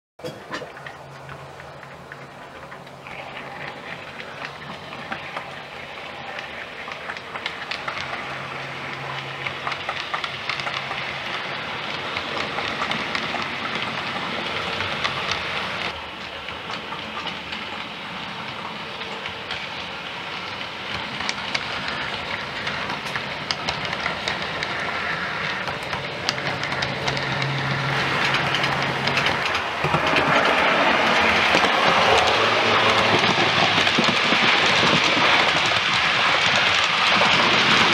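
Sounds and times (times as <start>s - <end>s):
model train wheels clicking: 0.6s - 37.9s.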